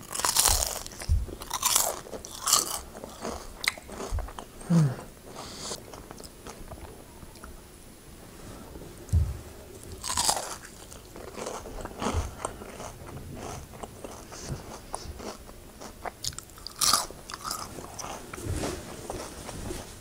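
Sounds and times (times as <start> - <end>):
person chewing crunchy food: 0.0 - 7.5, 9.8 - 19.4.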